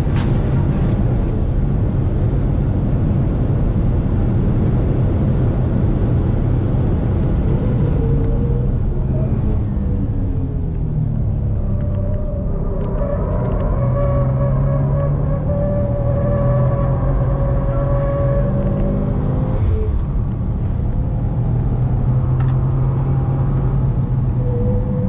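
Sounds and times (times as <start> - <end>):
car engine at full throttle: 0.0 - 25.0
wind and road noise: 0.0 - 25.0.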